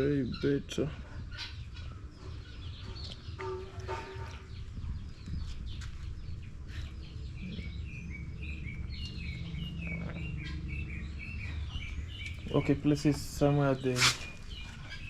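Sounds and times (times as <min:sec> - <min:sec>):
birds chirping: 0:00.0 - 0:15.0
low steady rumble: 0:01.5 - 0:15.0.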